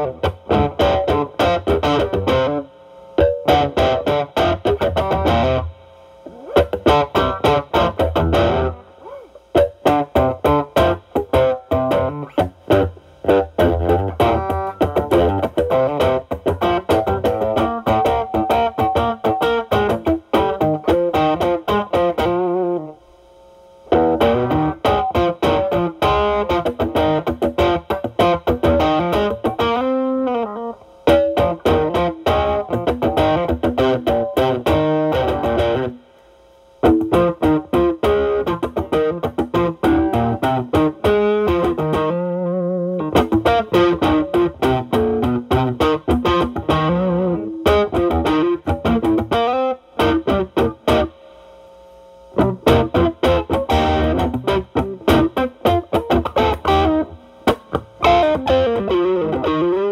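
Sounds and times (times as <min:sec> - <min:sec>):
overdriven electric guitar lead: 0:00.0 - 0:23.0, 0:23.9 - 0:36.0, 0:36.8 - 0:51.5, 0:52.3 - 0:59.9.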